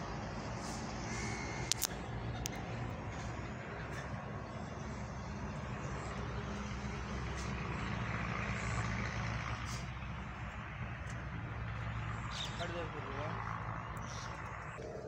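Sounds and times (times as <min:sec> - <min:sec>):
engine running with hum and hiss: 0:00.0 - 0:15.0.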